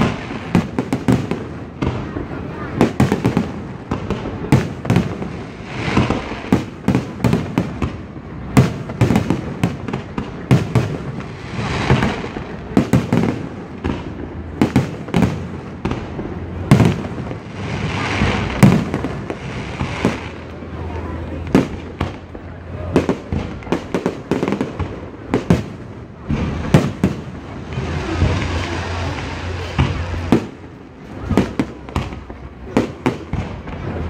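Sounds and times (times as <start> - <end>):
firework hissing: 0.0 - 34.0.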